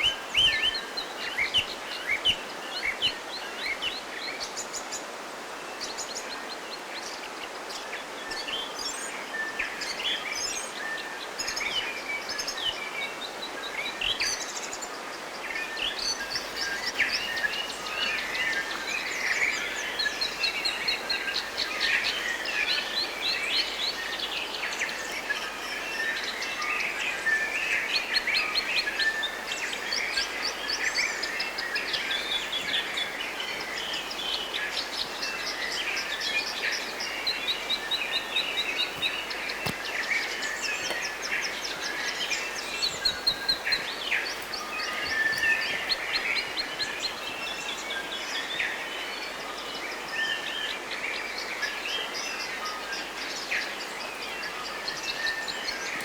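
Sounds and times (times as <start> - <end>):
background hiss: 0.0 - 56.0
forest birds chirping: 0.0 - 56.0.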